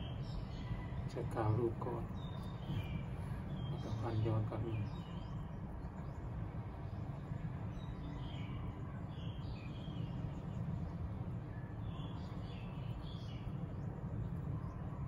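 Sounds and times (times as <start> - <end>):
low background rumble: 0.0 - 15.0
small birds chirping: 0.0 - 15.0.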